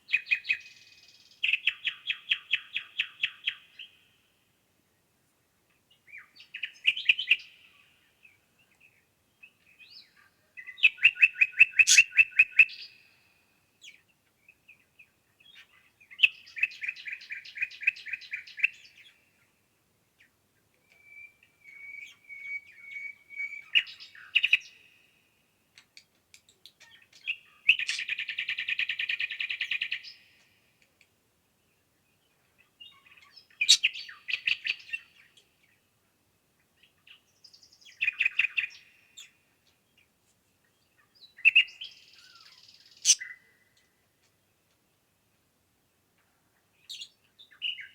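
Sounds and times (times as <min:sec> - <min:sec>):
songbird singing: 0:00.0 - 0:04.5, 0:05.7 - 0:47.9.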